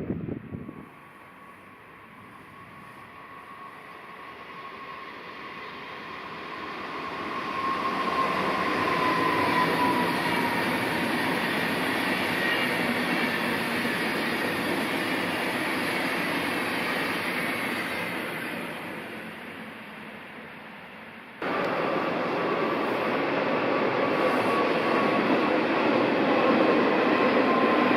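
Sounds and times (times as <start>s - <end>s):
train rushing past: 0.0s - 27.9s
train whistling tone: 0.6s - 20.3s, 21.4s - 27.9s.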